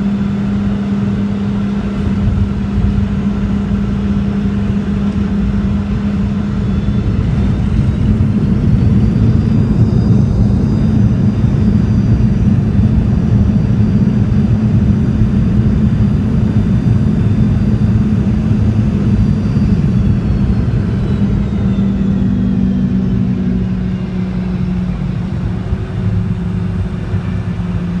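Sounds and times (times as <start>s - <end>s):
jet engine whine: 0.0s - 28.0s
low rumble of aircraft rolling: 0.0s - 28.0s.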